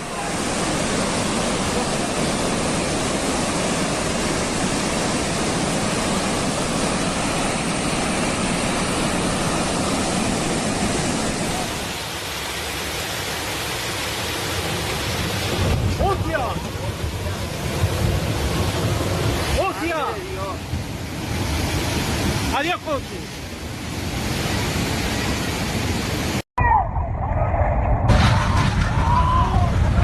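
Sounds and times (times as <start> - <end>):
water rushing: 0.0 - 26.4.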